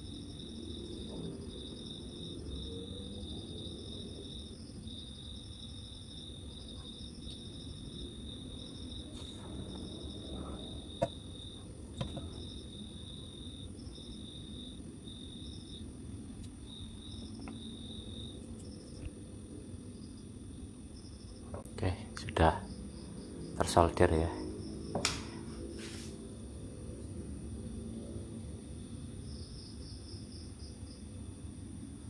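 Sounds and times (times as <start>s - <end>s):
crickets chirping: 0.0s - 32.0s
low steady hum: 0.0s - 32.0s.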